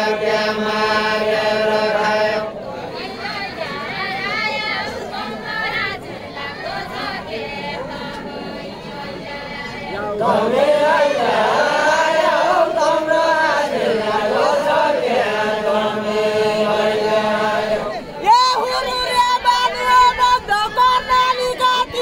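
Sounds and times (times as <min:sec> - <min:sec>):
group singing in unison: 0:00.0 - 0:22.0.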